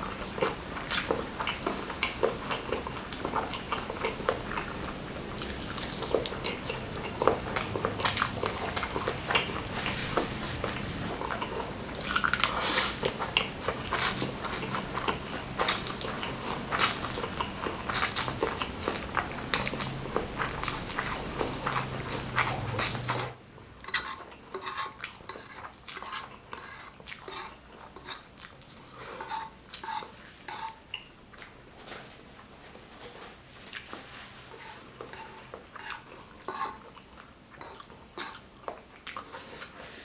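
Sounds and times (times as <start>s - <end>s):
biting and chewing food: 0.0s - 32.1s
low background hum: 0.0s - 40.0s.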